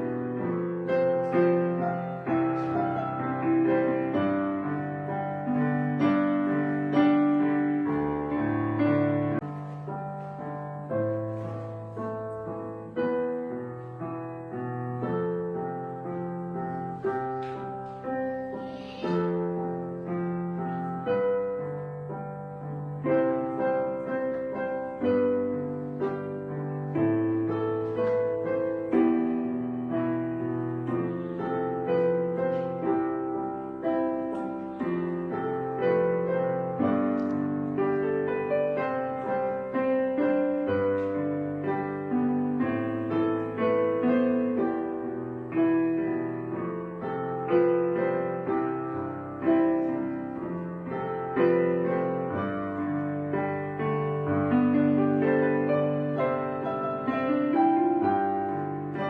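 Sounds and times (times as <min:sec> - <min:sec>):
piano music: 0:00.0 - 0:59.0.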